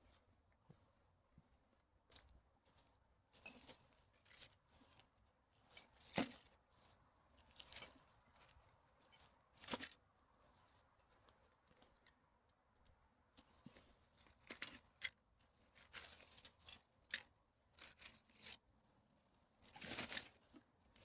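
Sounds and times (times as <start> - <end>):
rustling of dry leaves and plastic: 0.0 - 21.0.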